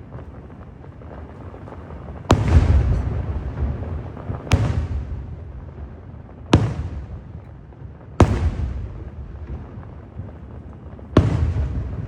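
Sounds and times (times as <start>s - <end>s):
firework booms with rolling rumble: 0.0s - 12.0s.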